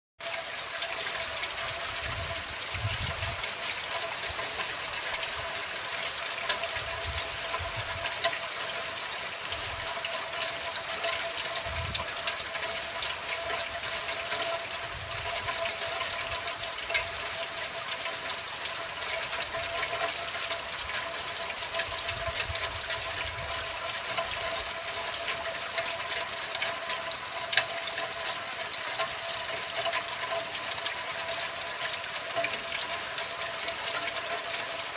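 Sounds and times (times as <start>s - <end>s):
rain on windshield: 1.1s - 34.9s.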